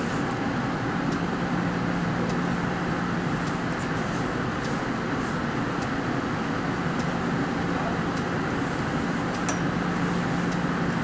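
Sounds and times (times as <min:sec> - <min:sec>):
light-rail train rumbling: 0:00.0 - 0:11.0
steady low hum: 0:00.0 - 0:11.0.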